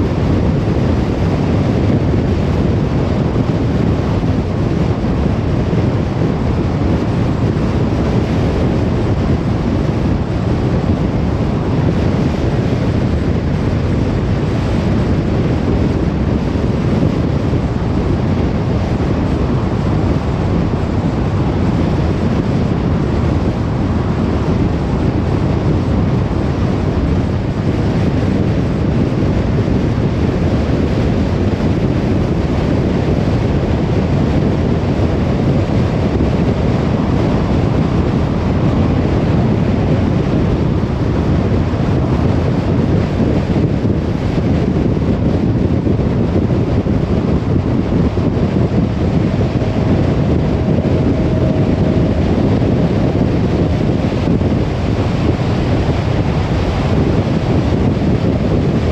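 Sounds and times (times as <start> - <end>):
car road noise: 0.0 - 58.9.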